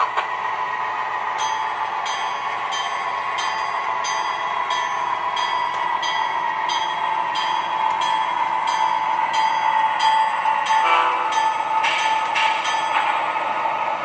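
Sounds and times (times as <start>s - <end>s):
model locomotive running hum: 0.0s - 14.0s.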